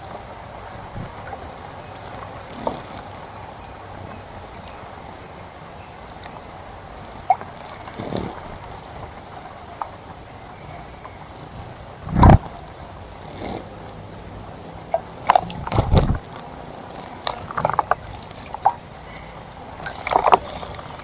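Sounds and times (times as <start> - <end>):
steady hiss: 0.0 - 21.0
water splashing in bird bath: 0.0 - 21.0.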